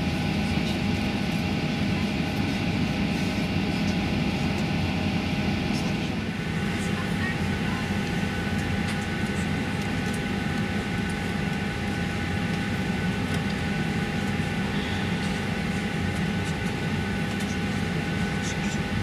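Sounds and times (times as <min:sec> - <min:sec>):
airplane cabin air-conditioning hum: 0:00.0 - 0:19.0.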